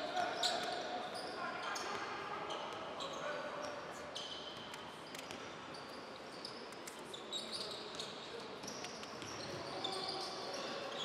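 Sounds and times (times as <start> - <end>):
sneakers squeaking: 0.0 - 11.0.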